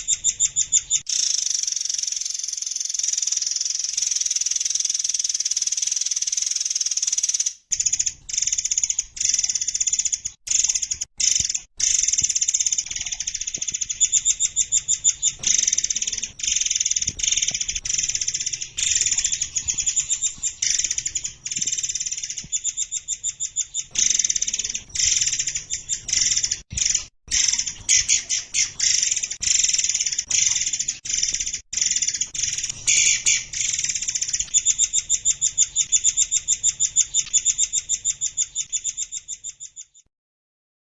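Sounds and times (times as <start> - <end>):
songbirds chirping and trilling: 0.0 - 40.0.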